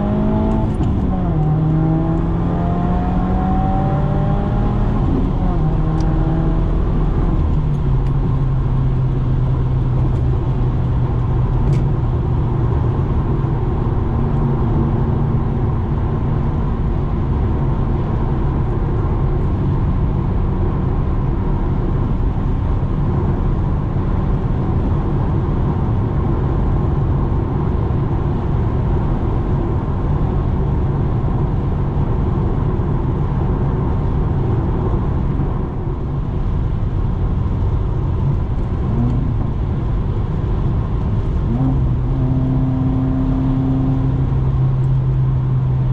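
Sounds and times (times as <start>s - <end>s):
car exhaust drone: 0.0s - 45.9s.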